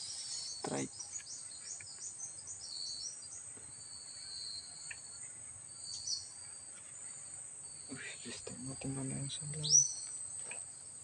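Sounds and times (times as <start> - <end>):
broken insect trill: 0.0 - 11.0
high-pitched insect chorus: 0.0 - 11.0.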